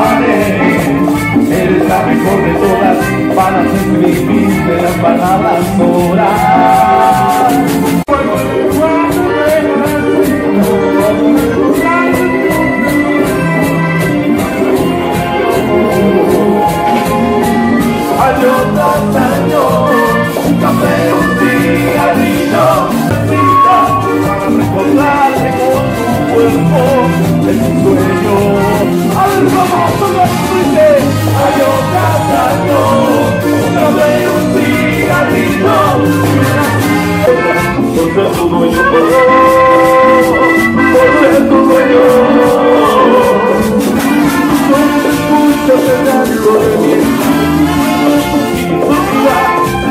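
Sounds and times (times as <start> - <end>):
live band melody: 0.0 - 49.9
percussion beat: 0.0 - 49.9.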